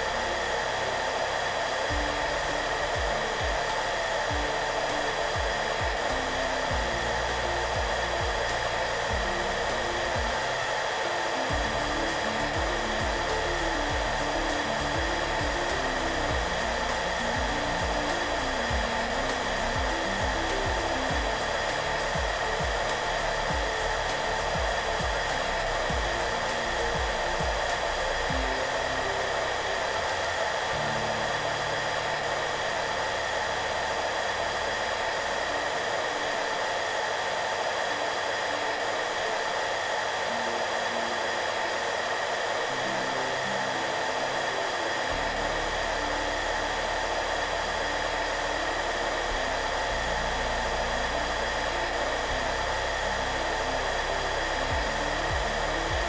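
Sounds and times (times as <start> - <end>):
hair dryer running: 0.0 - 56.0
soft background music: 0.0 - 56.0.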